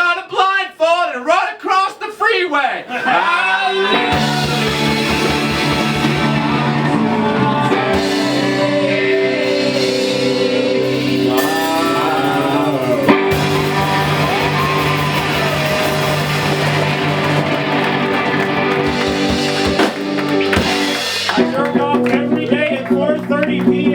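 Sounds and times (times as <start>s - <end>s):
person singing: 3.4s - 16.4s, 17.0s - 23.9s
live rock band playing: 3.9s - 23.9s.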